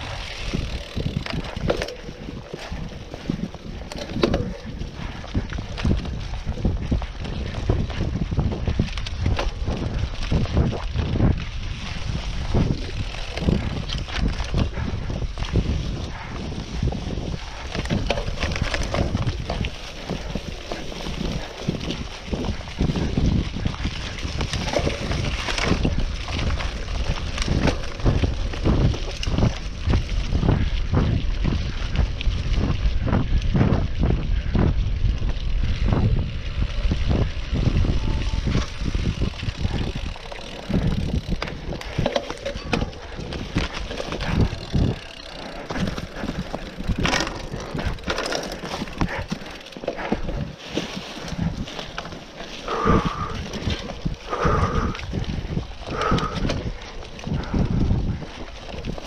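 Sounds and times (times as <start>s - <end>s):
bike tyres knocking and crackling: 0.0s - 59.0s
wind buffeting microphone: 0.0s - 59.0s.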